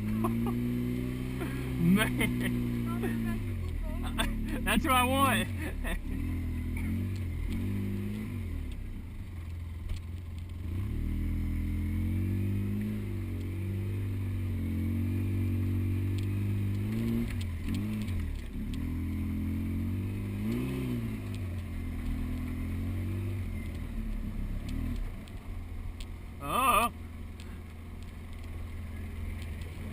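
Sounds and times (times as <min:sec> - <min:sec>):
off-road vehicle engine revving: 0:00.0 - 0:29.9.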